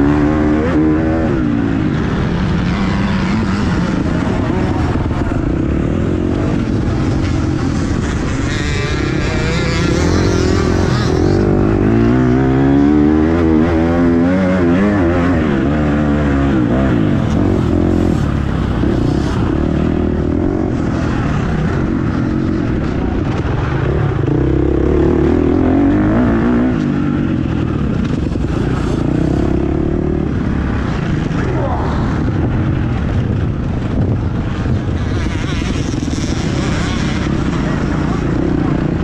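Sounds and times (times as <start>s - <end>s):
motocross bike engine revving: 0.0s - 39.0s.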